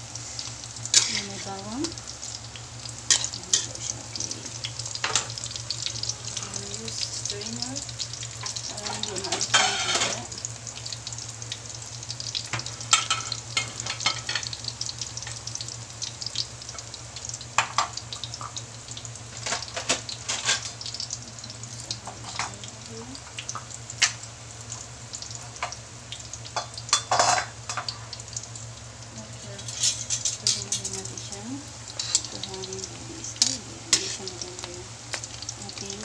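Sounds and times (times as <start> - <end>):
batter sizzling in hot oil: 0.0 - 36.0.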